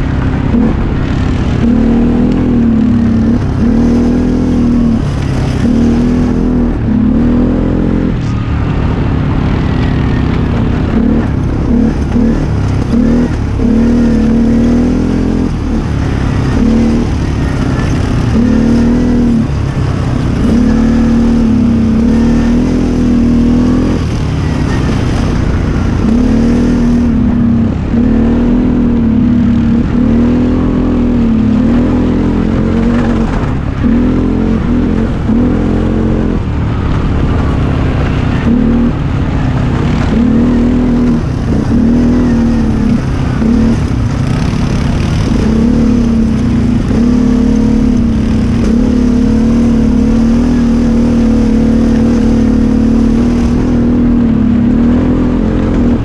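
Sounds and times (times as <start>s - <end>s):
quad bike engine revving: 0.0s - 56.0s
wind rumble on microphone: 0.0s - 56.0s.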